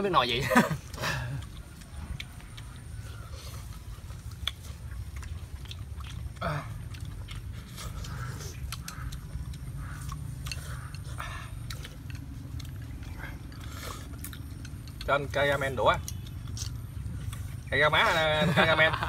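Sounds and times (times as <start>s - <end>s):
chewing and slurping: 0.0s - 18.9s
chopsticks clicking against bowls: 0.9s - 6.2s, 6.9s - 17.8s.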